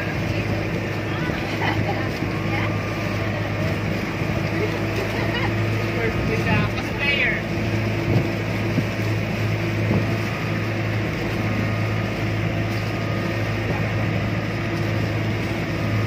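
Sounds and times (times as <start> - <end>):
boat engine droning: 0.0 - 16.0
wind and water rushing past: 0.0 - 16.0.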